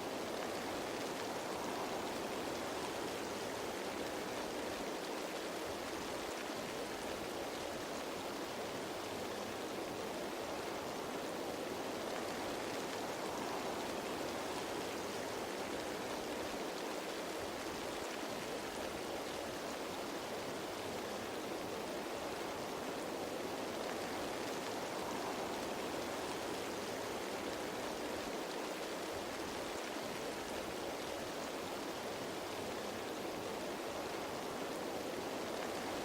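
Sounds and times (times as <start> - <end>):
rain falling on leaves: 0.0 - 36.0.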